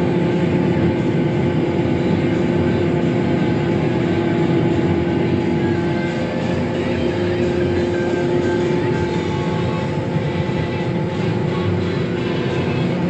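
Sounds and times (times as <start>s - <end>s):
combine harvester droning: 0.0s - 13.0s.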